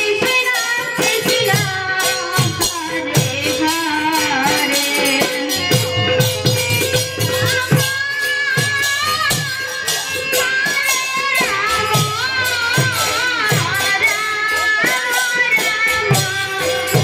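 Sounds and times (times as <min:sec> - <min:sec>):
jingling hand cymbals: 0:00.0 - 0:17.0.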